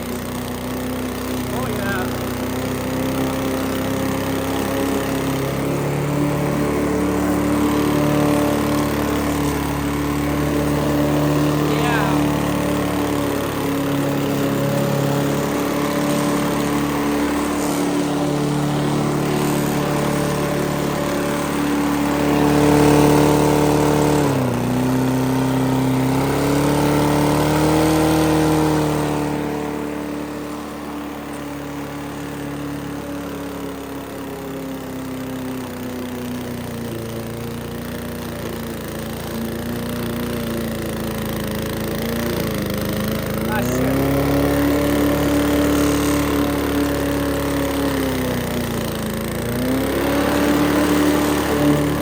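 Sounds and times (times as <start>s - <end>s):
lawn mower engine running: 0.0s - 52.0s.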